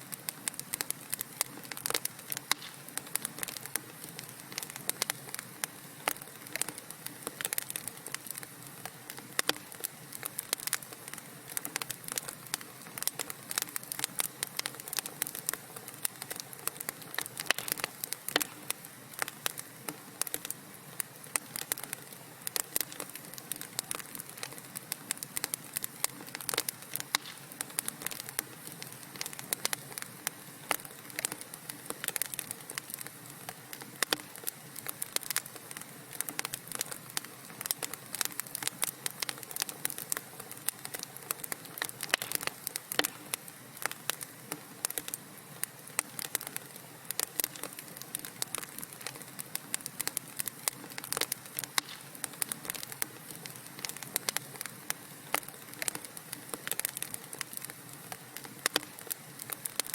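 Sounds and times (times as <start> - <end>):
soft fire hiss: 0.0 - 59.9
burning logs popping and snapping: 0.1 - 59.9.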